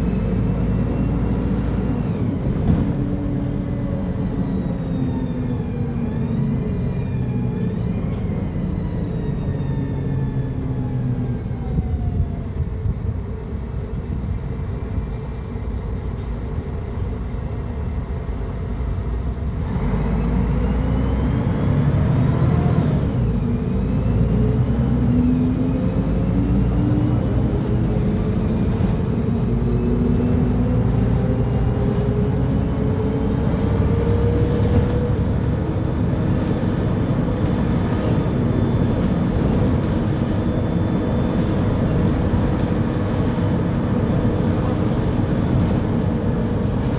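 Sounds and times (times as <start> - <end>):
bus diesel engine: 0.0 - 46.9.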